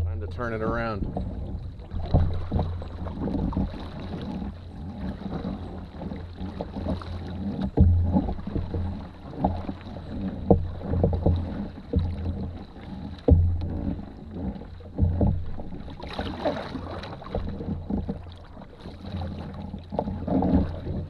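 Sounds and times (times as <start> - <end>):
low steady rumble: 0.0 - 20.0
canoe paddles in water: 0.0 - 21.0
paddle knocking hull: 0.0 - 21.0.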